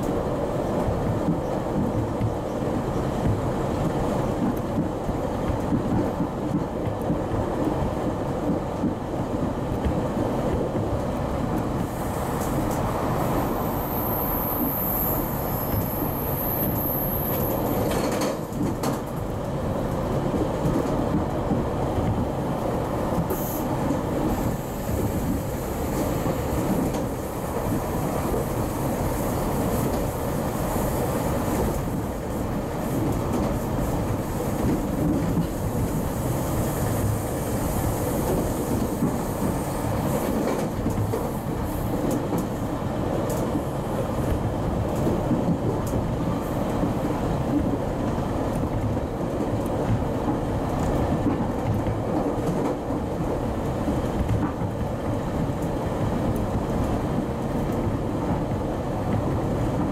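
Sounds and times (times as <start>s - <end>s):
train wheels rumbling and rattling: 0.0s - 59.9s.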